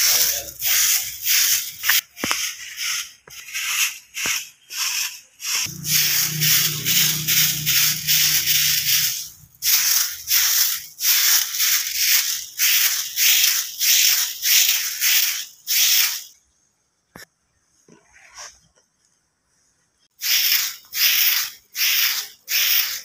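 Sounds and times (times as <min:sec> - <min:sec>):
broom sweeping dry leaves: 0:00.0 - 0:16.3, 0:20.2 - 0:23.0.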